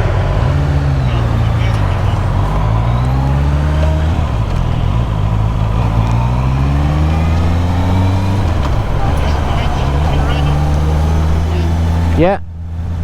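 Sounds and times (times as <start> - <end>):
motorcycle engine accelerating: 0.0 - 13.0
road and wind rush: 0.0 - 13.0.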